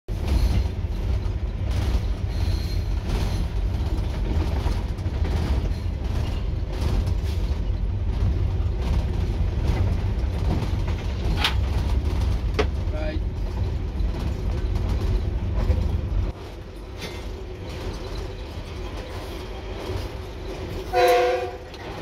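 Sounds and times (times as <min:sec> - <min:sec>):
locomotive low rumble: 0:00.1 - 0:22.0.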